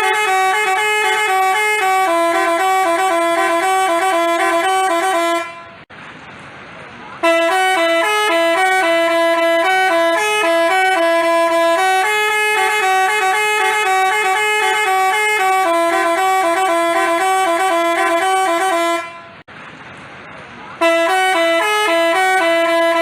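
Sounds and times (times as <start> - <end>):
musical bus horn playing tune: 0.0 - 5.9, 7.2 - 19.5, 20.8 - 23.0.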